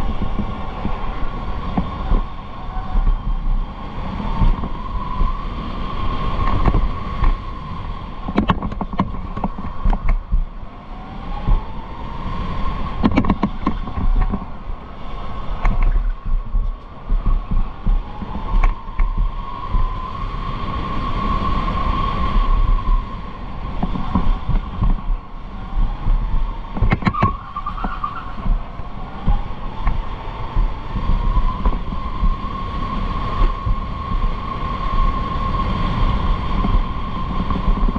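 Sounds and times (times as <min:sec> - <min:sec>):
low rumble: 0:00.0 - 0:12.0, 0:12.6 - 0:35.3.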